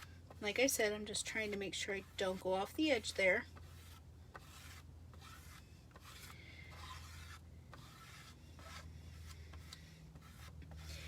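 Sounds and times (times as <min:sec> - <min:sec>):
squeegee scraping stencil: 0:00.0 - 0:11.0.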